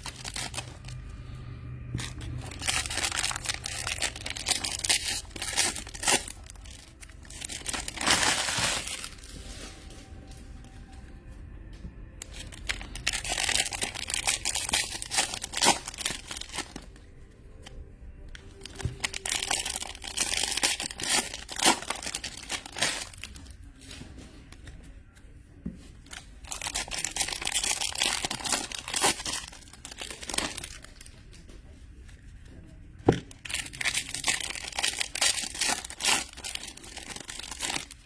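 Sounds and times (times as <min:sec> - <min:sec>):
card pack wrappers tearing and crinkling: 0:00.0 - 0:11.0, 0:12.2 - 0:23.9, 0:26.1 - 0:31.3, 0:33.2 - 0:38.0.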